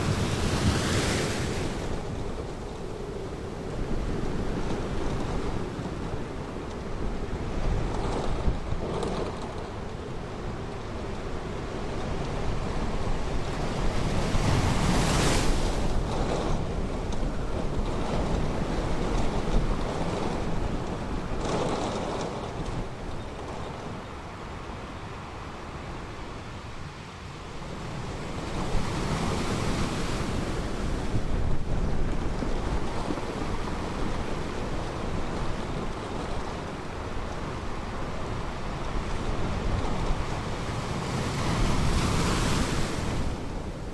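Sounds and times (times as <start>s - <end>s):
ocean surf washing on beach: 0.0s - 43.9s
wind rumble on microphone: 0.0s - 43.9s.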